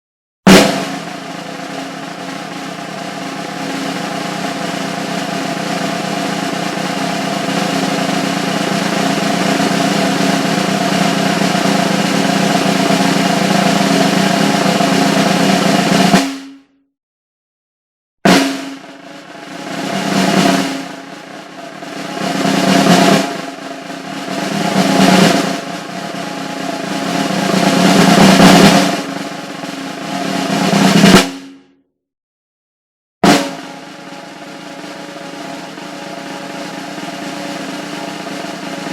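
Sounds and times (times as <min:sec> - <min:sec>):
snare drum roll: 0:00.5 - 0:16.6, 0:18.3 - 0:31.6, 0:33.2 - 0:38.9.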